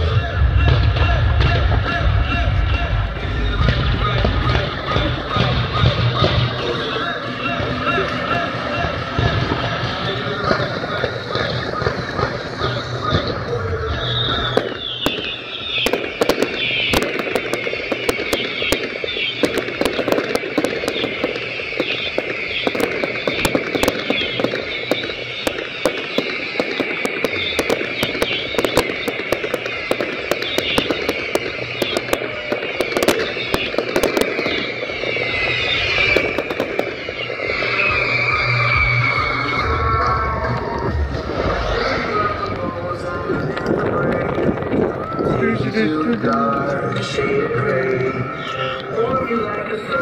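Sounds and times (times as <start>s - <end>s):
fireworks cracking and popping: 0.0s - 50.0s
fireworks whistles: 0.0s - 50.0s
fireworks hissing: 2.9s - 50.0s.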